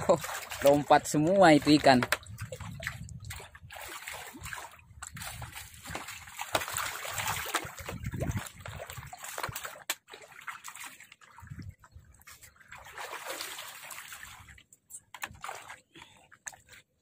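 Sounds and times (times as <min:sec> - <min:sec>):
fish splashing in shallow water: 0:00.0 - 0:17.0.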